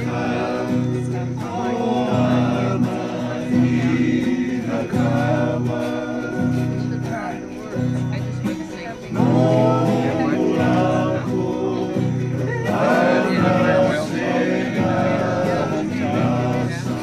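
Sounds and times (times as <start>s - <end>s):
group singing together: 0.0s - 17.0s.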